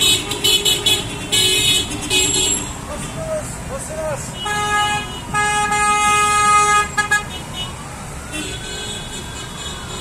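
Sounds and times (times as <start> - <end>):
car horns honking: 0.0 - 3.3, 4.2 - 10.0.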